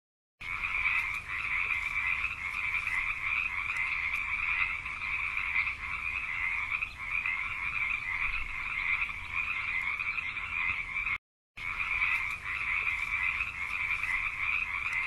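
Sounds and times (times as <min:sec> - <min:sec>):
frogs calling: 0:00.4 - 0:15.0.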